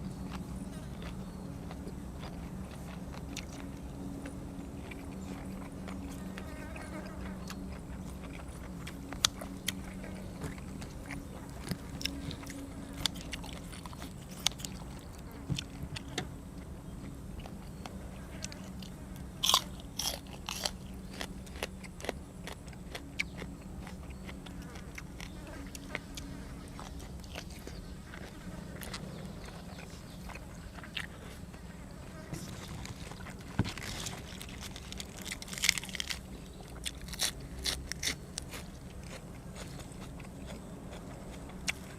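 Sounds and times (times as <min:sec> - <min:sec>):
biting and chewing crunches: 0:00.0 - 0:41.9
steady low hum: 0:00.0 - 0:41.9.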